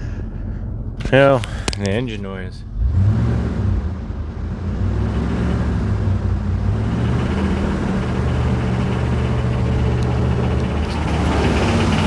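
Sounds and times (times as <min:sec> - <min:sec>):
car engine running with knock: 0:00.0 - 0:12.0.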